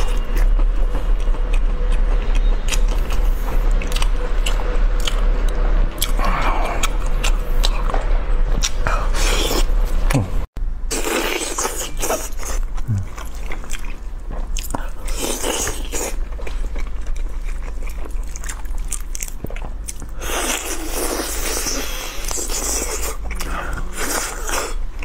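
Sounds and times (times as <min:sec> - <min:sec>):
chewing and biting meat: 0:00.0 - 0:08.0, 0:10.9 - 0:25.0.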